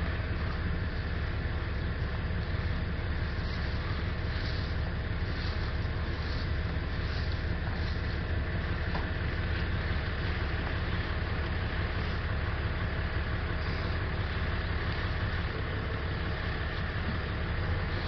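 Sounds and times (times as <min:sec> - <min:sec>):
gas torch flame roaring: 0:00.0 - 0:18.0.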